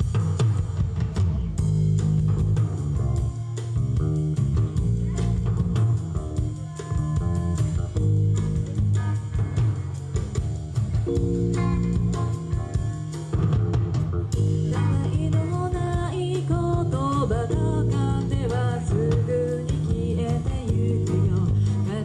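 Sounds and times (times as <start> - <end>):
bass guitar: 0.0 - 22.0
drum kit beat: 0.0 - 22.0
electric guitar: 2.0 - 22.0.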